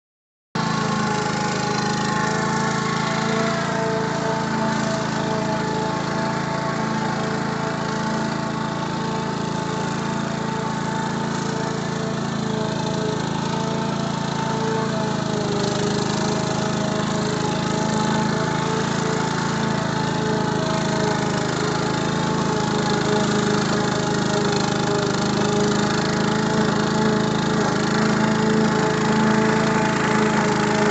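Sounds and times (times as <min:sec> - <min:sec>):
lawn mower engine running: 0:00.6 - 0:30.9.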